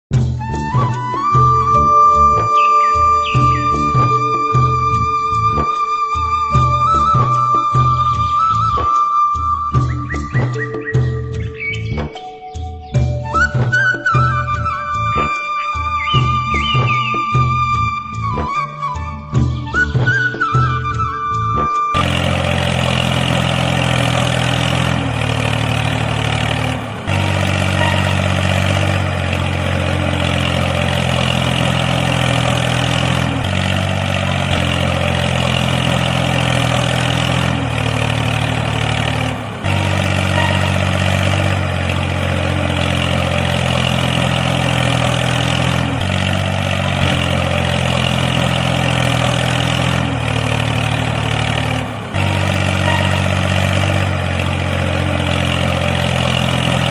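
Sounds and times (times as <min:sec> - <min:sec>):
tractor engine idling: 0:00.1 - 0:18.6, 0:19.7 - 0:56.9.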